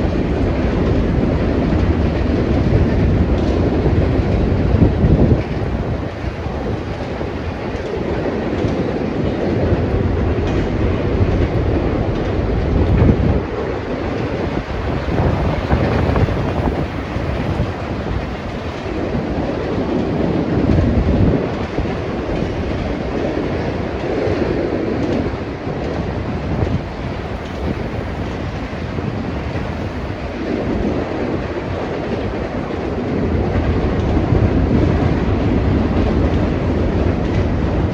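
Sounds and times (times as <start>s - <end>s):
freight train wheels rumbling: 0.0s - 37.9s.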